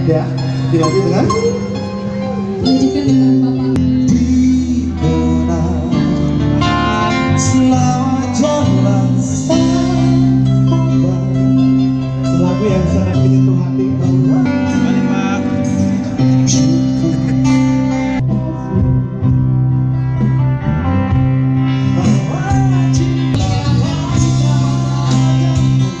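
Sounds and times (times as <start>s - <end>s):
person singing: 0.0s - 20.2s, 21.7s - 26.0s
electronic keyboard chords: 0.0s - 26.0s
guitar: 0.0s - 26.0s.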